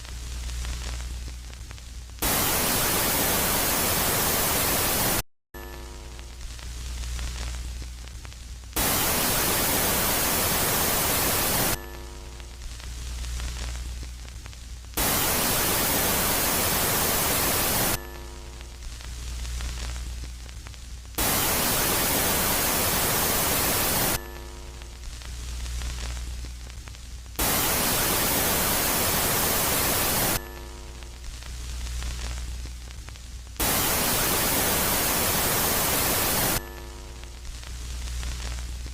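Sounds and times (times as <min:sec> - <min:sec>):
synthetic static-like hiss: 0:00.0 - 0:38.9.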